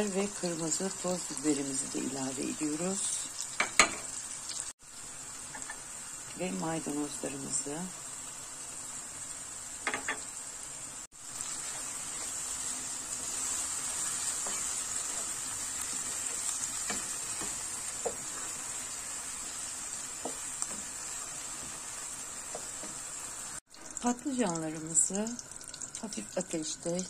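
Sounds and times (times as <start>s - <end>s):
vegetables sizzling in a frying pan: 0.0s - 27.0s.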